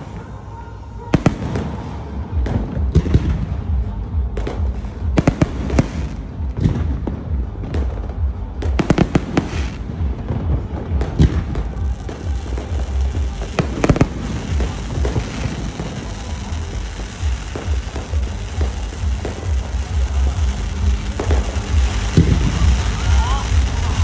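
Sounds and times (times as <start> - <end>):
constant low rumble: 0.0 - 24.0
fireworks bangs and crackles: 0.0 - 24.0.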